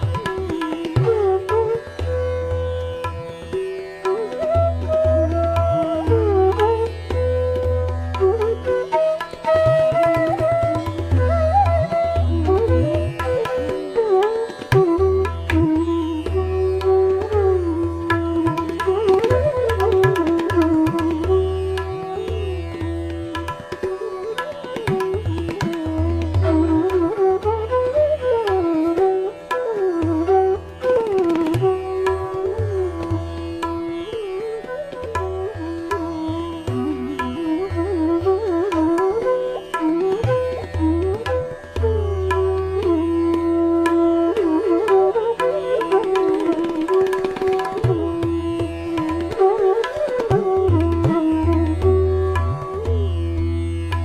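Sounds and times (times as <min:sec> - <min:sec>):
tabla: 0:00.0 - 0:54.0.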